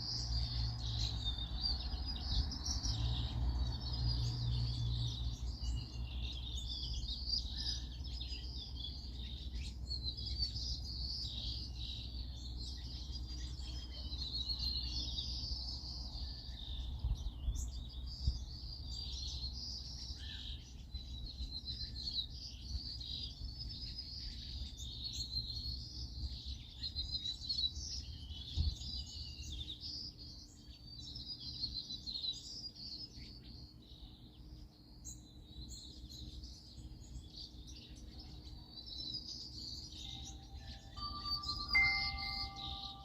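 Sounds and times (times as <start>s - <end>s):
songbirds chirping and singing: 0.0s - 43.0s.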